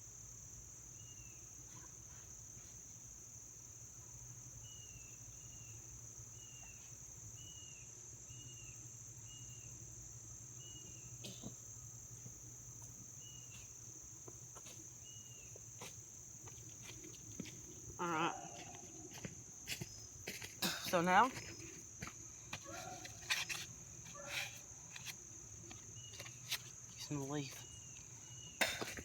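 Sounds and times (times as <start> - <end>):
crickets droning: 0.0 - 29.0.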